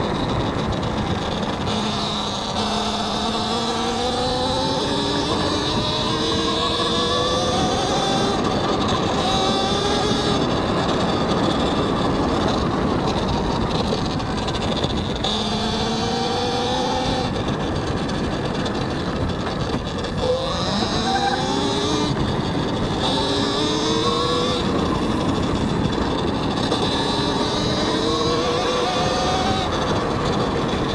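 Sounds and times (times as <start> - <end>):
electric motor whining: 0.0 - 30.9
tyre noise: 0.0 - 30.9
wind rushing over microphone: 0.0 - 30.9.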